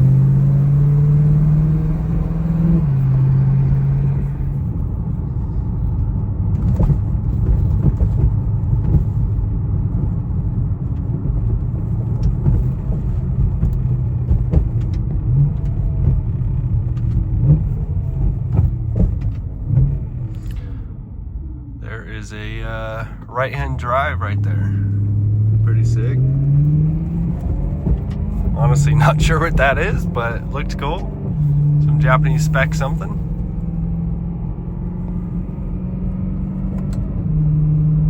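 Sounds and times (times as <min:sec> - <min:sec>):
car engine rumbling: 0:00.0 - 0:38.0
road noise: 0:00.0 - 0:38.0.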